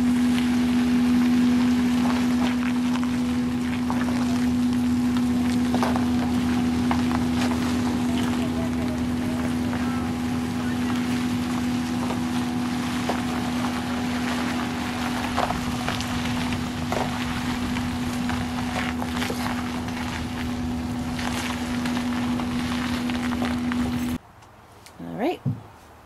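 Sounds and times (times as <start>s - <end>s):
pickup truck engine running: 0.0s - 24.2s.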